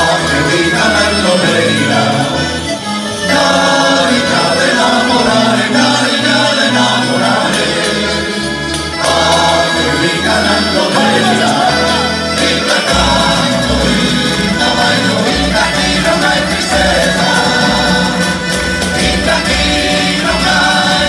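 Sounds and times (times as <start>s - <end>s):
accordion: 0.0s - 21.0s
bagpipe: 0.0s - 21.0s
male chorus singing: 0.0s - 21.0s.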